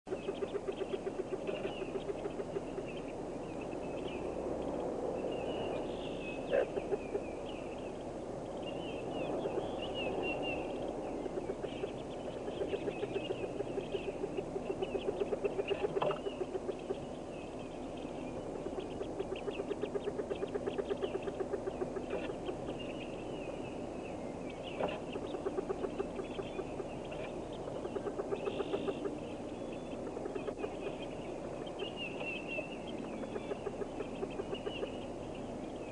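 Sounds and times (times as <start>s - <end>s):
ducklings peeping: 0.1s - 35.9s
low rapid pulsing: 0.1s - 35.9s.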